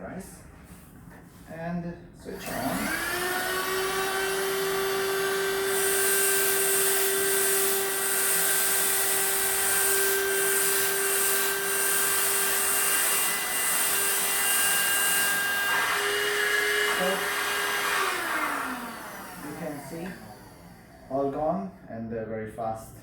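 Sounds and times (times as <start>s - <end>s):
vacuum cleaner motor whine: 2.4s - 21.7s.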